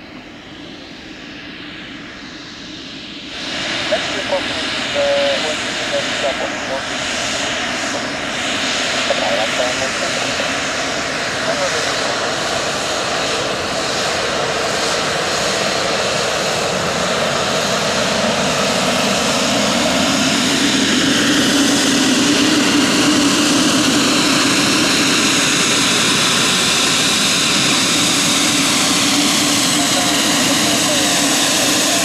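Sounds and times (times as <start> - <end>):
turboprop aircraft droning: 0.0 - 32.0.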